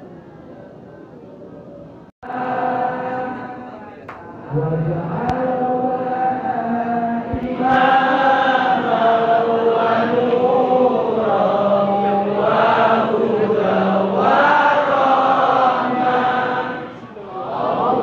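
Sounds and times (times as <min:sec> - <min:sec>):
group chanting in unison: 0:02.2 - 0:18.0.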